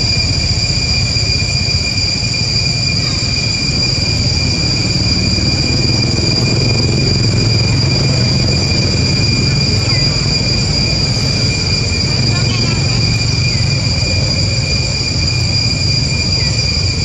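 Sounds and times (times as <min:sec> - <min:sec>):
high-pitched insect drone: 0:00.0 - 0:17.0
low rumble: 0:00.0 - 0:17.0.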